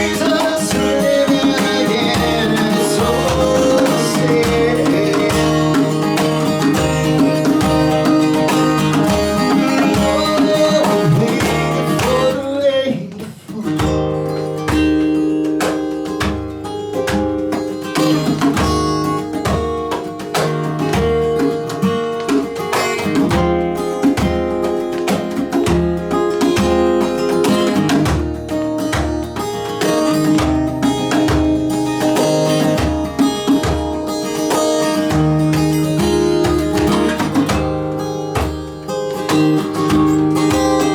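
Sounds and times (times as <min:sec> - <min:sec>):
guitar band song: 0:00.0 - 0:40.9.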